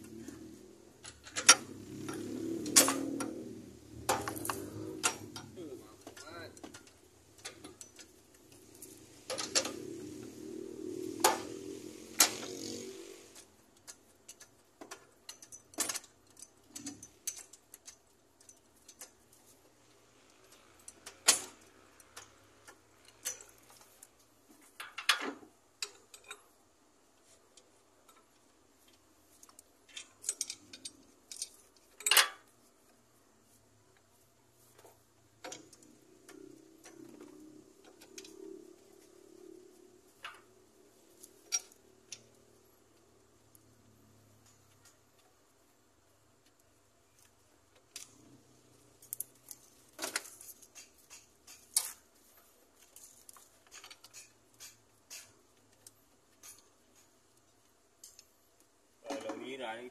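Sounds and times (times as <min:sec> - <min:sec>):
metallic clicks of hand tools: 0:00.0 - 0:26.5, 0:27.6 - 0:32.6, 0:34.8 - 0:45.5, 0:46.2 - 0:59.6.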